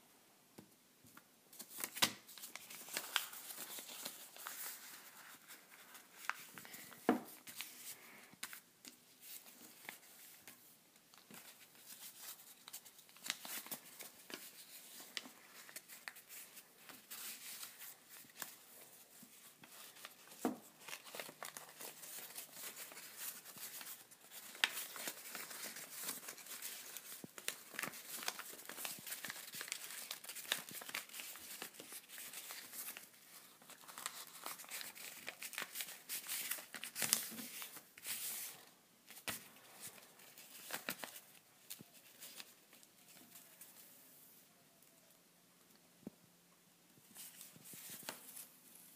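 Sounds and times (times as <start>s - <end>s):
paper being folded and creased: 1.6s - 43.8s, 47.2s - 48.6s.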